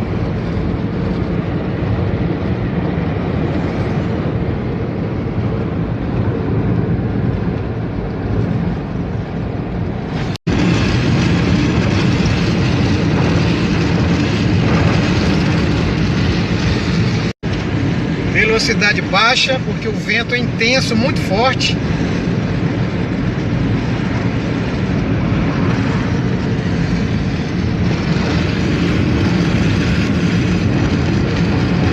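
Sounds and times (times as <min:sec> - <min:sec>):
car road and engine noise: 0:00.0 - 0:31.9
wind rushing against car: 0:00.0 - 0:31.9.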